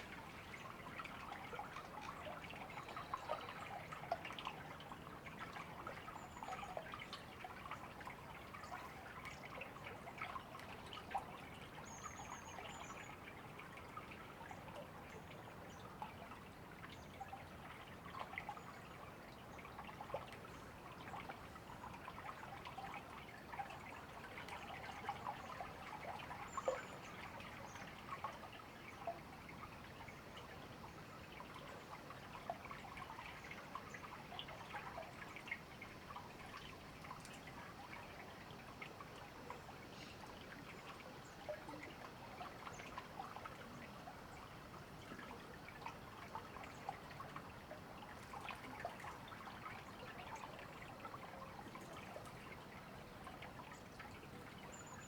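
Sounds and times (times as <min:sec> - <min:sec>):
shallow river babbling: 0:00.0 - 0:55.0.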